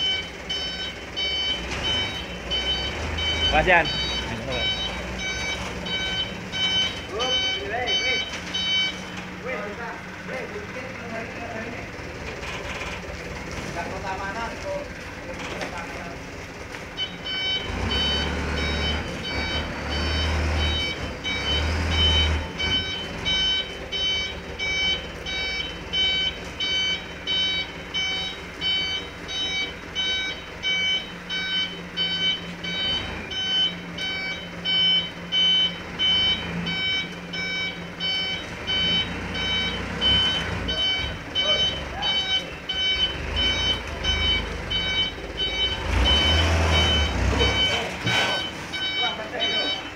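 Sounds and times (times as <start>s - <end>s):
truck engine running low: 0.0s - 49.9s
truck reversing alarm beeping: 0.0s - 49.9s.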